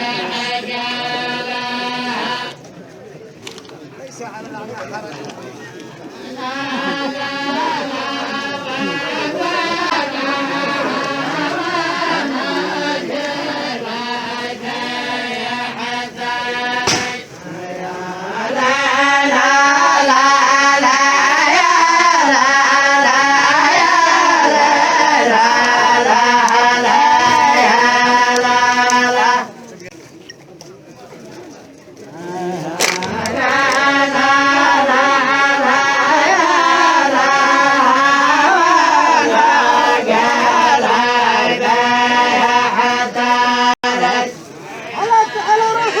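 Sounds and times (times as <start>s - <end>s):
group of voices chanting: 0.0s - 2.6s, 6.2s - 29.6s, 32.2s - 46.0s.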